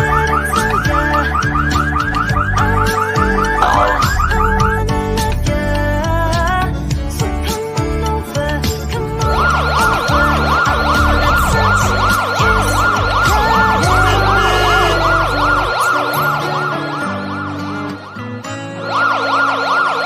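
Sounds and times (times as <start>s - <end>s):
police siren yelping: 0.0s - 5.5s, 9.2s - 20.0s
background music: 0.0s - 20.0s.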